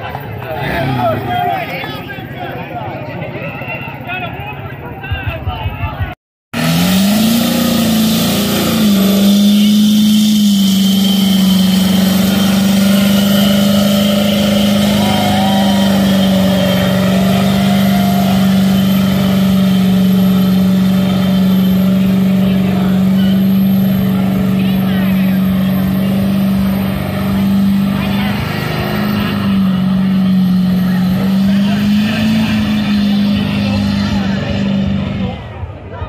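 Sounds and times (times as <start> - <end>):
truck engine revving: 0.0 - 2.6, 6.5 - 36.0.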